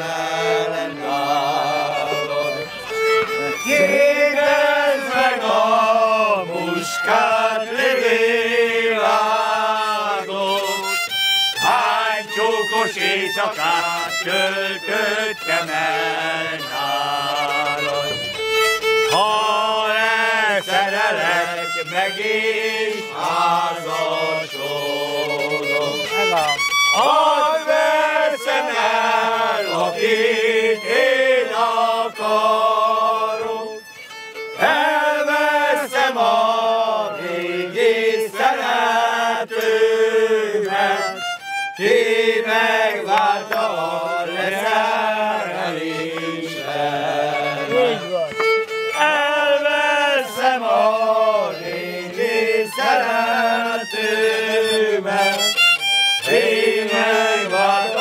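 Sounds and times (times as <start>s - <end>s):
men singing: 0.0s - 48.2s, 48.9s - 55.6s, 56.2s - 58.0s
violin playing folk tune: 0.0s - 58.0s.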